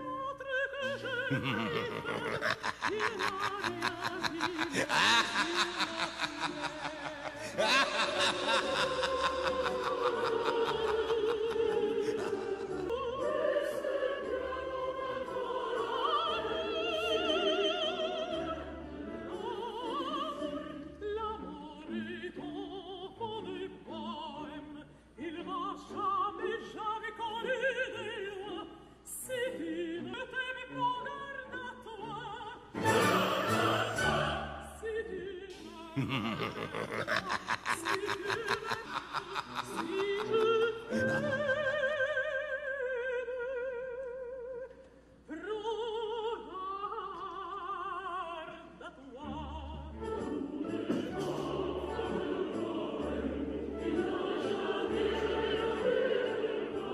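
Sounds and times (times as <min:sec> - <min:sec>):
operatic singing voice: 0:00.0 - 0:56.9.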